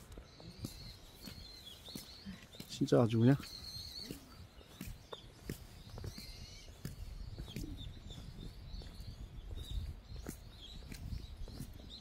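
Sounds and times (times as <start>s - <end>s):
high bird chirps: 0.1s - 12.0s.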